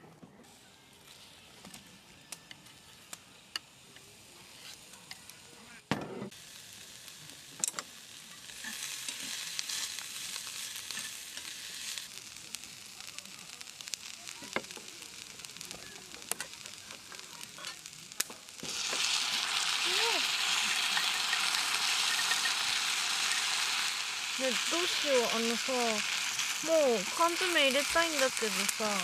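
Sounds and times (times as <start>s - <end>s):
food sizzling in a pan: 0.5s - 29.0s.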